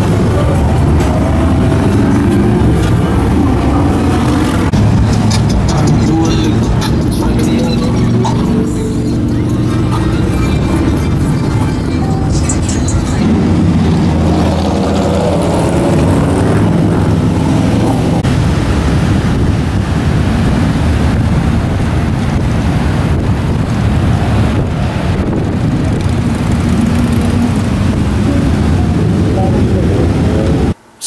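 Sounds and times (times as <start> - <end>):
motorcycles revving and passing: 0.0 - 30.8
road traffic: 0.0 - 31.0.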